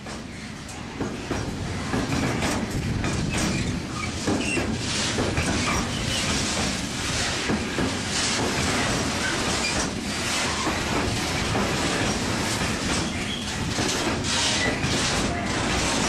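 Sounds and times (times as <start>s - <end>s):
train wheels rumbling on rails: 0.0s - 16.0s
wheels clacking over rail joints: 0.0s - 16.0s.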